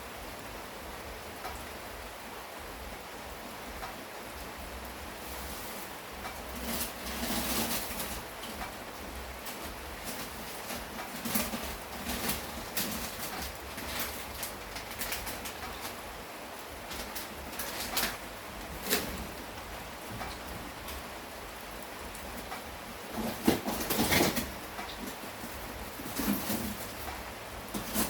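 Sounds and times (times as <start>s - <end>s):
steady rain on a surface: 0.0s - 28.0s.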